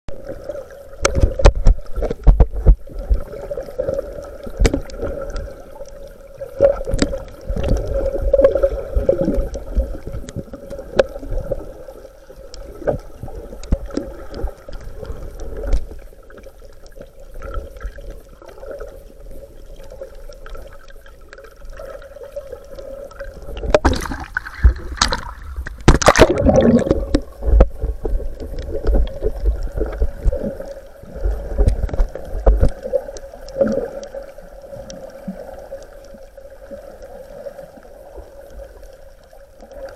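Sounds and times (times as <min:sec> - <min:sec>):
water sloshing and splashing: 0:00.1 - 0:39.9.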